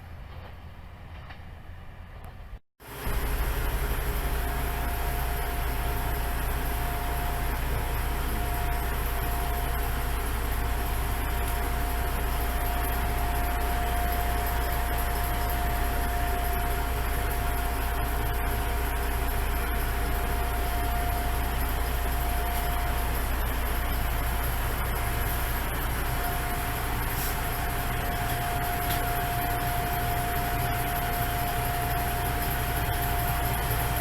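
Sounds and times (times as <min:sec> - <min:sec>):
diesel engine idling: 0:02.8 - 0:34.0.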